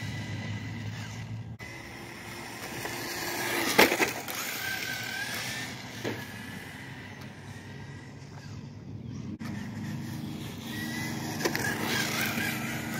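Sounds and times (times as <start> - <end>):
tyre noise on asphalt: 0.0 - 8.6, 9.4 - 12.9
electric motor whining: 0.0 - 12.9.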